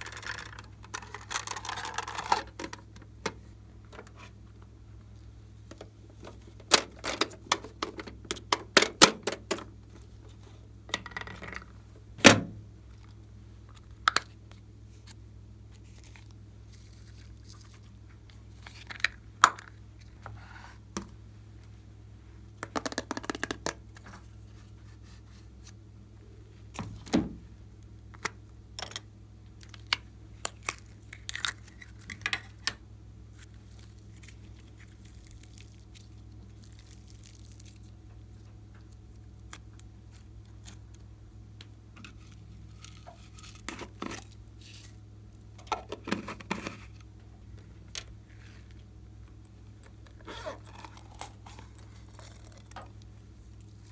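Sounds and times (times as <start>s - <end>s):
steady low hum: 0.0s - 22.8s, 23.6s - 53.9s.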